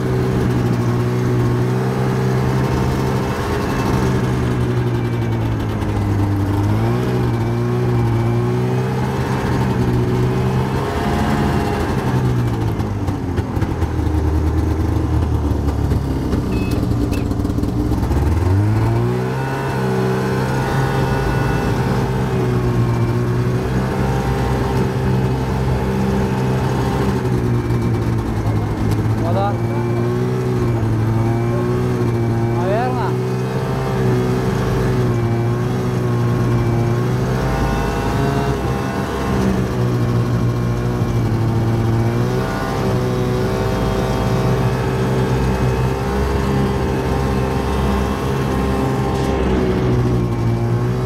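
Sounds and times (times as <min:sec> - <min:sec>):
snowmobile engine running: 0:00.0 - 0:51.0.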